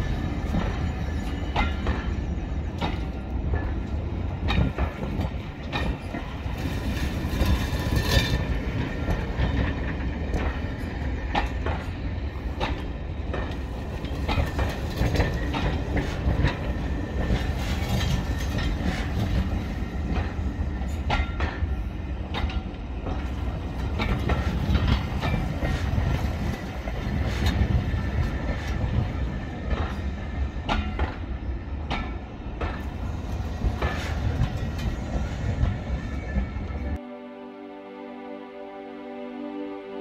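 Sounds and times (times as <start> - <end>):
train rumbling on track: 0.0 - 37.1
wheels clicking over rail joints: 0.3 - 36.7.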